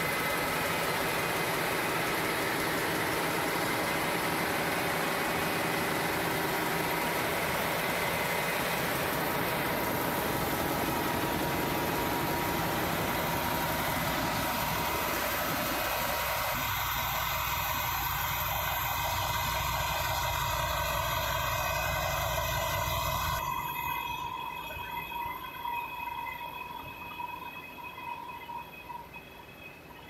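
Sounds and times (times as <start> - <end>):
diesel generator engine running: 0.0 - 27.0
engine whine: 0.0 - 30.0.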